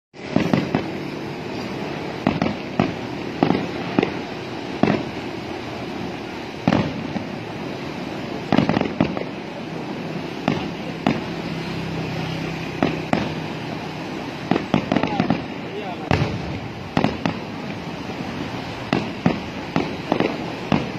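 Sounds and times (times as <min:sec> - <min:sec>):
firework shells bursting: 0:00.2 - 0:11.8, 0:12.7 - 0:13.7, 0:14.3 - 0:20.9
steady background din: 0:00.2 - 0:20.9.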